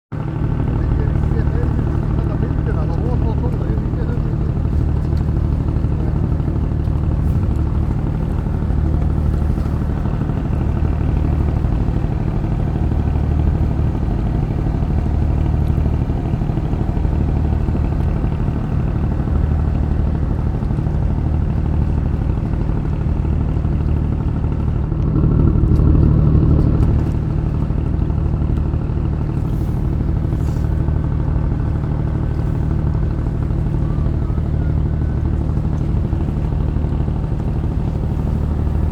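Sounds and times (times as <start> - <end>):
low engine drone: 0.1 - 38.9.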